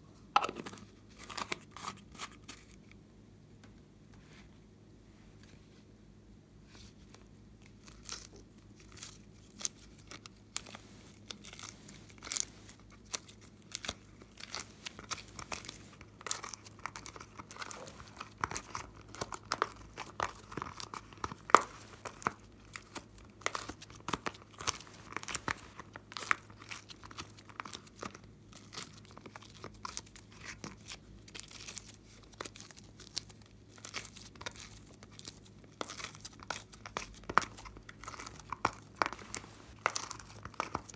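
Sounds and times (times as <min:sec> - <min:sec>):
slime clicking and squelching: 0:07.6 - 0:40.9.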